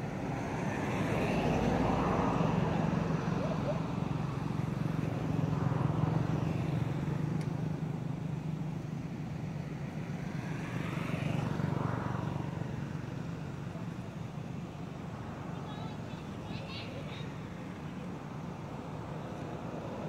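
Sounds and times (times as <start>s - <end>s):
vehicle passing by: 0.0s - 8.9s, 9.6s - 20.0s
traffic engine hum: 0.0s - 20.0s.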